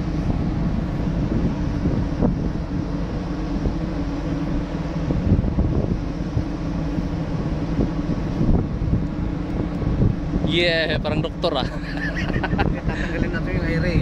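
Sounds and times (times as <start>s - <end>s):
low hum of ship machinery: 0.0s - 14.0s
wind buffeting microphone: 0.0s - 14.0s.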